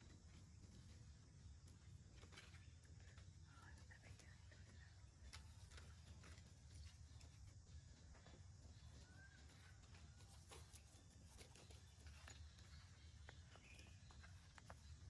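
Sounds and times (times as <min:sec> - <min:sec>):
faint low outdoor rumble: 0:00.0 - 0:15.0.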